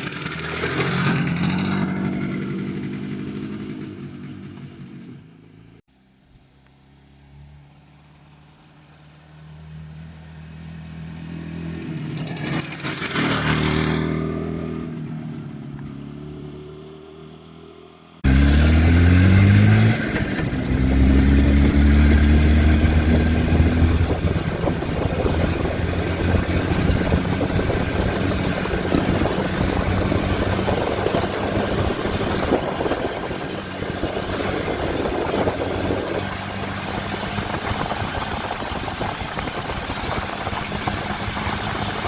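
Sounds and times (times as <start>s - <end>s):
two-stroke engine revving and idling: 0.0s - 5.8s, 7.4s - 42.0s.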